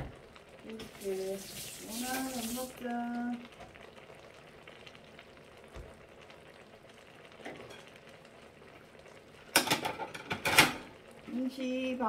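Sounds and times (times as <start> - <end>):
food simmering with soft sizzle: 0.0 - 12.0.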